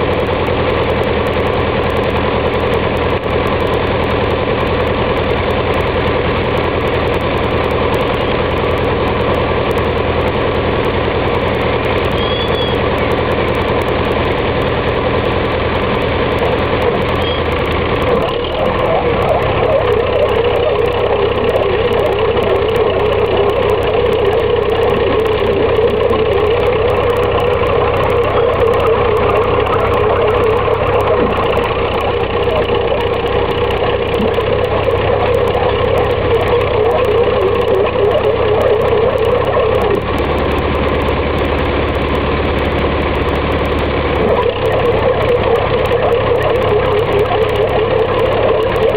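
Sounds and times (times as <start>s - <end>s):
diesel tractor engine straining: 0.0s - 48.9s.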